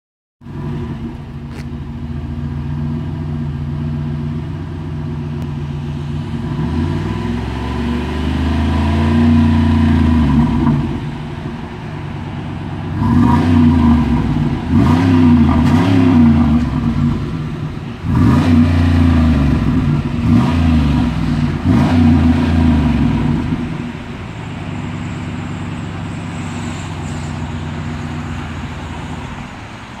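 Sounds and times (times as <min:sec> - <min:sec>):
car engine idling and revving: 0:00.4 - 0:30.0
engine throttle blips: 0:00.4 - 0:30.0.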